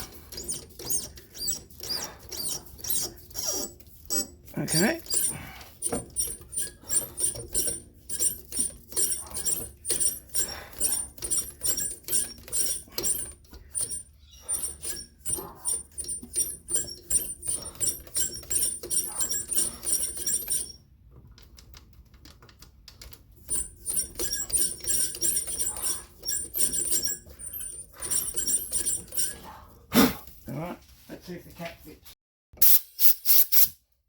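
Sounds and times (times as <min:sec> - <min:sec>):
metallic ratcheting clicks: 0:00.0 - 0:20.8, 0:22.3 - 0:29.4.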